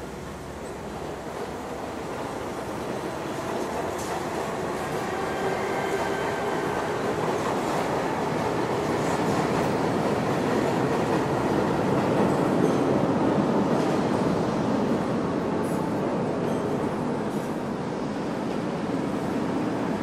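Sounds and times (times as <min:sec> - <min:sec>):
subway train rumbling on rails: 0:00.0 - 0:20.0.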